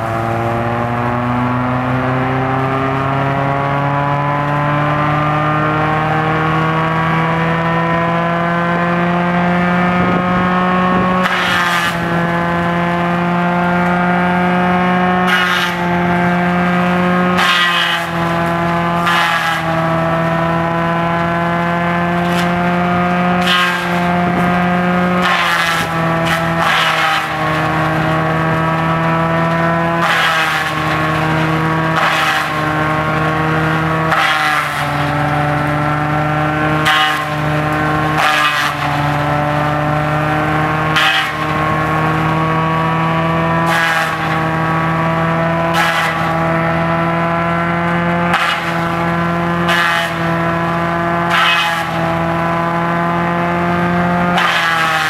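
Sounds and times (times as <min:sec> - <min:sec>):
tractor engine hum: 0:00.0 - 0:55.0
palm fronds crackling in shredder: 0:10.0 - 0:55.0.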